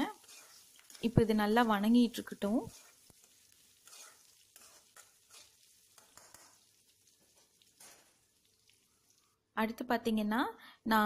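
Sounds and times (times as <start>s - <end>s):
ladle stirring: 0.0s - 9.4s
garlic sizzling in oil: 0.0s - 9.5s.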